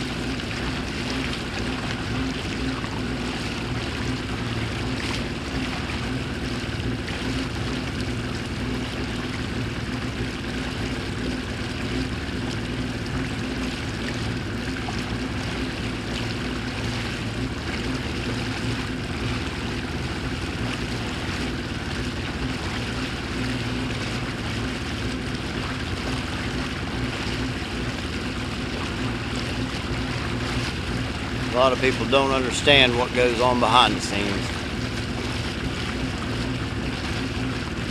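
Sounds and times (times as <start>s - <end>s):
motorboat engine running: 0.0s - 37.9s
water and wind hiss: 0.0s - 37.9s.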